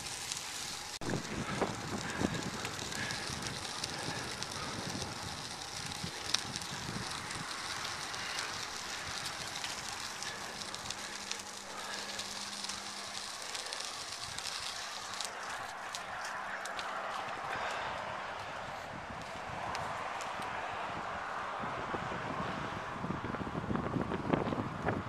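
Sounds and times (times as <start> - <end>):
bicycle tyres rolling on gravel: 0.0 - 21.3, 23.0 - 25.0
wind on microphone: 1.0 - 13.3, 17.1 - 25.0.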